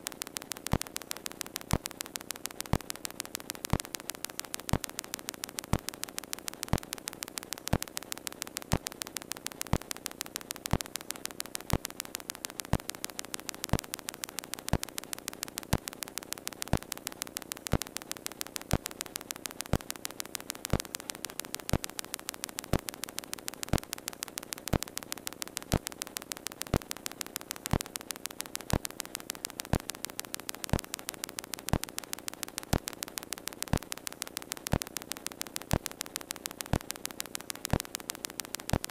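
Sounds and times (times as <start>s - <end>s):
electrical hum and static: 0.0s - 38.9s
fast even ticking: 0.0s - 38.9s
loud clicks: 0.0s - 38.9s.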